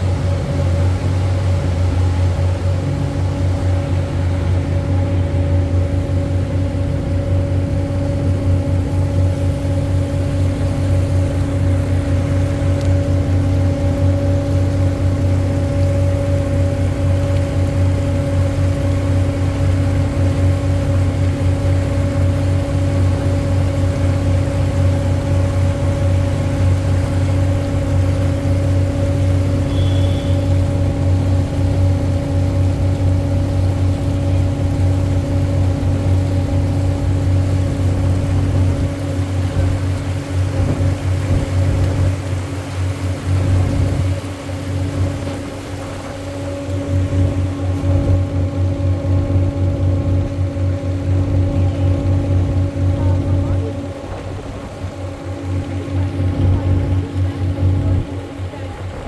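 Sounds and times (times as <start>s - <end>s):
boat engine humming: 0.0s - 59.0s.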